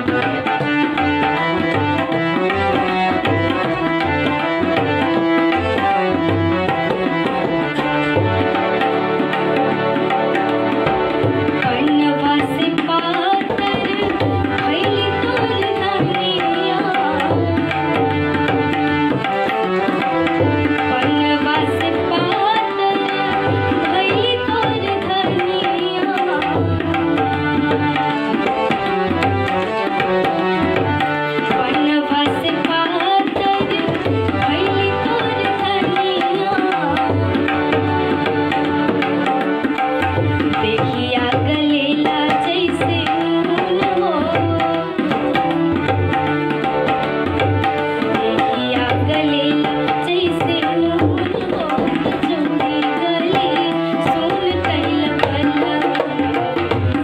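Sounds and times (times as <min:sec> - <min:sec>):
rhythmic hand drum: 0:00.0 - 0:57.0.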